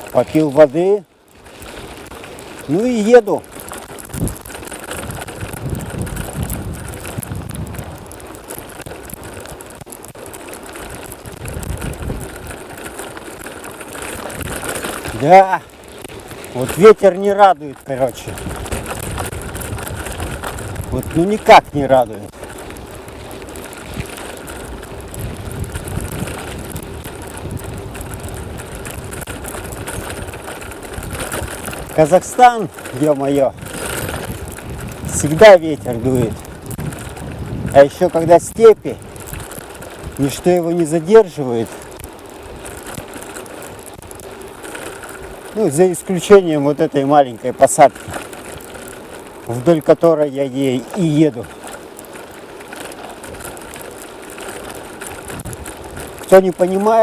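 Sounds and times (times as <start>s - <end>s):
bicycle rolling noise: 0.0s - 57.0s
wind buffeting microphone: 1.4s - 57.0s.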